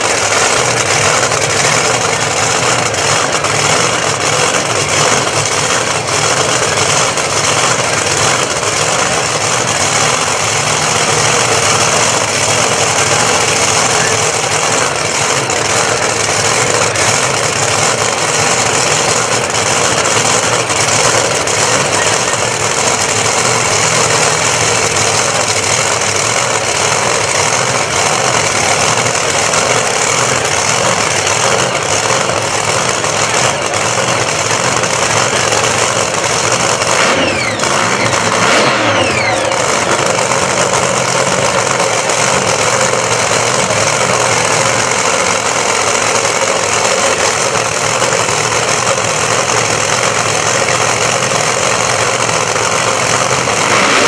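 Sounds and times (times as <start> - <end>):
crowd noise: 0.0 - 54.0
race car engines revving: 0.0 - 54.0.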